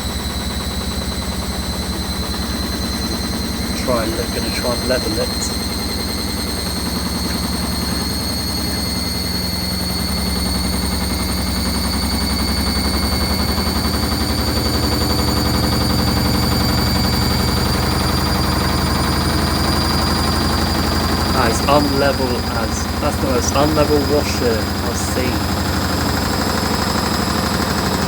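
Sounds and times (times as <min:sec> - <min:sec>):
high motor whine: 0:00.0 - 0:28.0.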